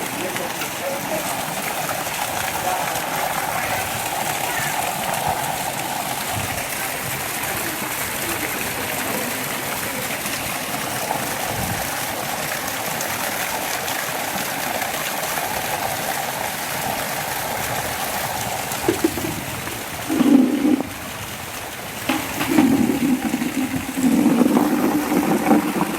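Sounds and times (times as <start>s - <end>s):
rainwater rushing: 0.0s - 25.9s.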